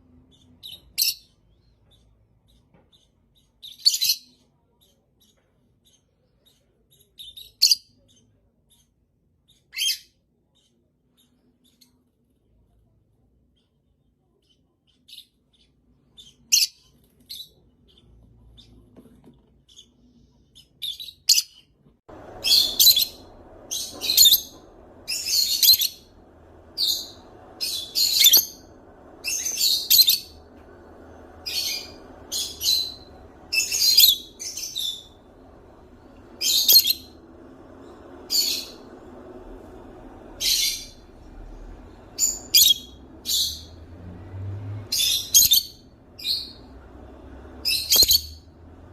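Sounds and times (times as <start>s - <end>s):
low steady background hum: 0.0s - 48.9s.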